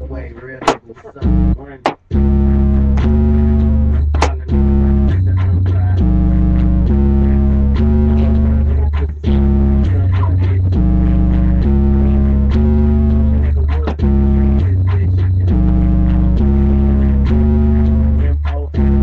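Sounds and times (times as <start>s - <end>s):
music with deep bass line: 0.0s - 19.0s.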